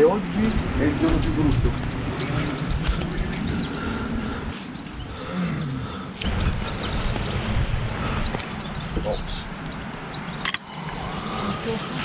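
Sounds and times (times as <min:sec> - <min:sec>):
small birds chirping: 0:00.0 - 0:12.0
low rumble: 0:00.4 - 0:10.2.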